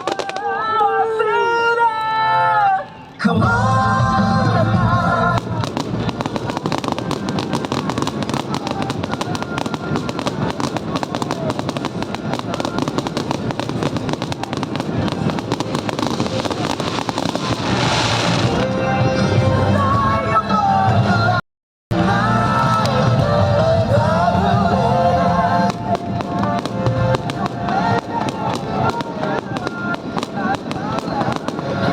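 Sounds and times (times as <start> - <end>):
fireworks crackling bursts: 0.0 - 2.1, 2.7 - 19.8, 22.0 - 31.9
music: 0.0 - 31.9.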